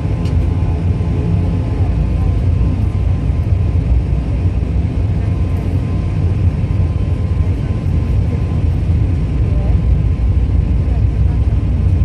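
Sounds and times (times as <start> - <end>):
turboprop engine rumble: 0.0 - 12.0.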